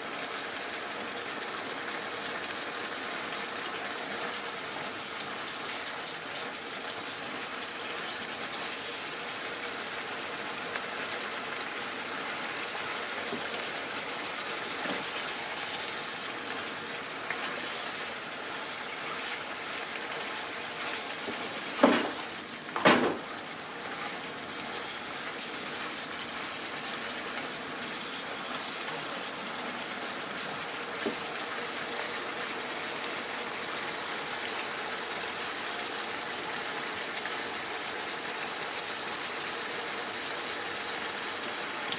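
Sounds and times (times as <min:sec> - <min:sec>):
sauce sizzling in a frying pan: 0:00.0 - 0:41.9.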